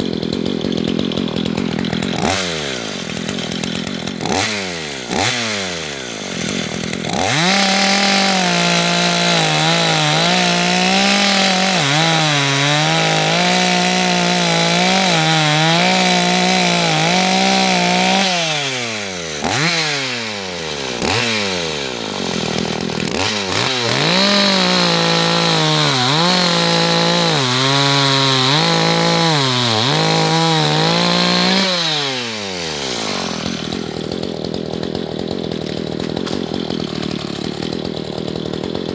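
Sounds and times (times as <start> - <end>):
chainsaw cutting a log: 0.0 - 38.9.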